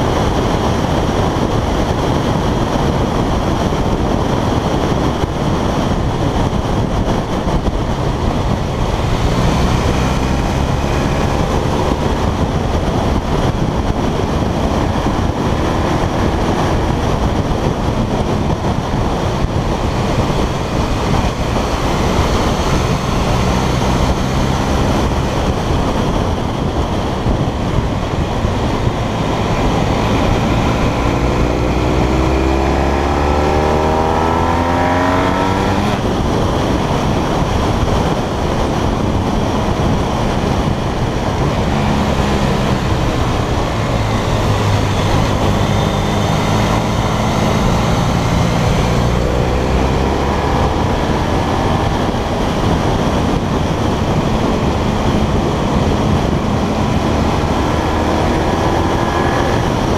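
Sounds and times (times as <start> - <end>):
motorcycle engine accelerating: 0.0 - 59.9
wind rush over microphone: 0.0 - 59.9.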